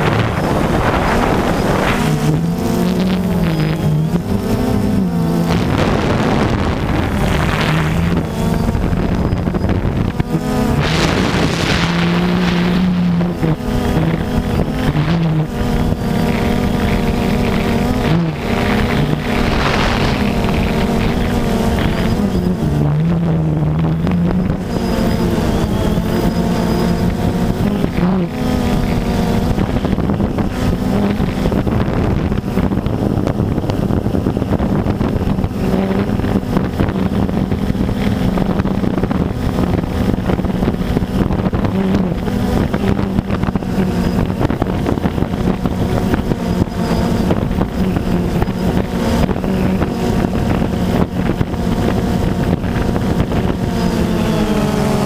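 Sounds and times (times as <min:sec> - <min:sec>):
drone propellers buzzing: 0:00.0 - 0:55.0
wind on microphone: 0:00.0 - 0:55.0.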